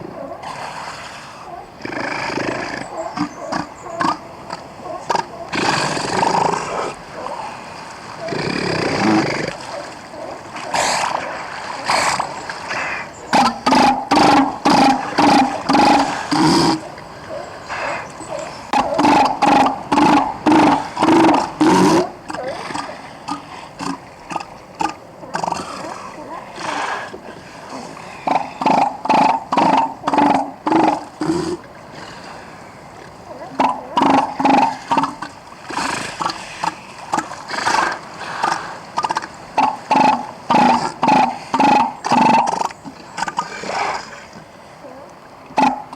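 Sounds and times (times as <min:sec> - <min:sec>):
elephant seal belching: 0:00.4 - 0:07.4, 0:08.2 - 0:09.7, 0:10.6 - 0:17.0, 0:17.7 - 0:32.2, 0:33.3 - 0:45.9.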